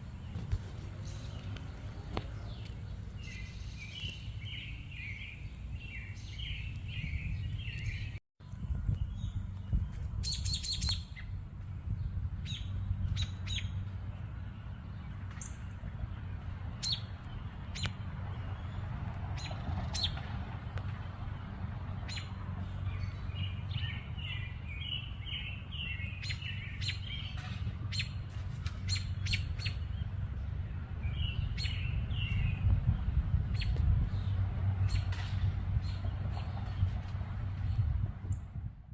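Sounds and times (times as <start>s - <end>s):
birds chirping: 0.0s - 8.2s, 9.0s - 38.4s
steady low rumble: 0.0s - 38.9s.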